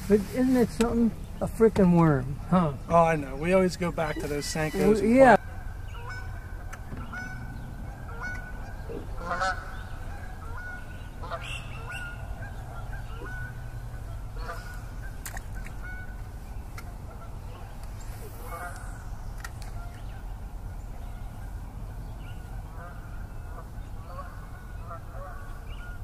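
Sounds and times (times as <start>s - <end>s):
bird calling: 0.0s - 26.0s
low hum: 0.0s - 26.0s.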